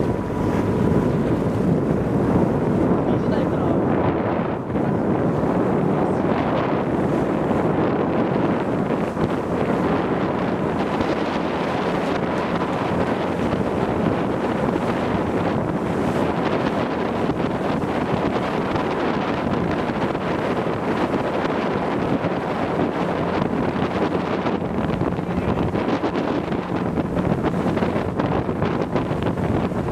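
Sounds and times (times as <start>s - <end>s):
boat engine and water noise: 0.0s - 29.9s
wind rushing over microphone: 0.0s - 29.9s.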